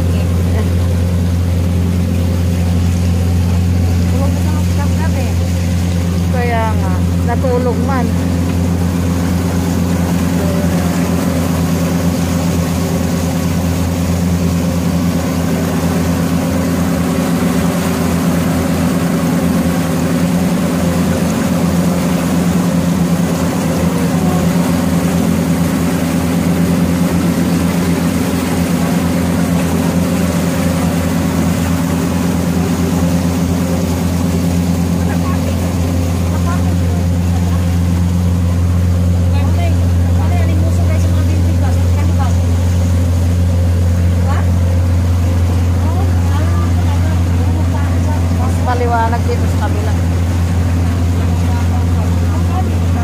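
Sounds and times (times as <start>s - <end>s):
boat diesel engine running: 0.0s - 53.0s.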